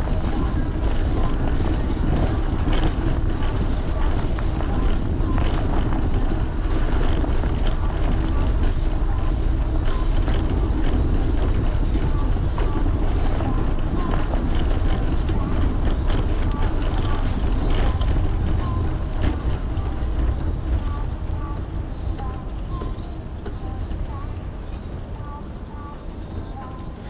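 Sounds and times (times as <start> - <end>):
wind rush on microphone: 0.0 - 27.0.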